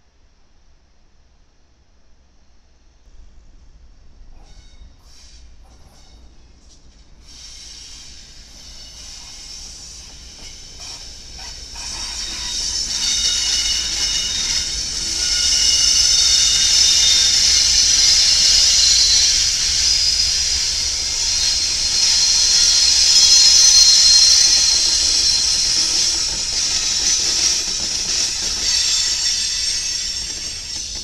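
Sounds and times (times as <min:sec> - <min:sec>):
locomotive wheels hissing on rail: 0:04.4 - 0:31.0.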